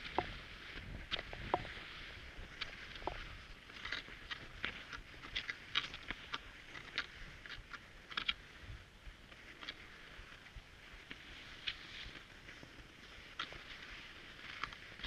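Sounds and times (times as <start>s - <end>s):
skis and poles crunching on snow: 0.0s - 15.0s.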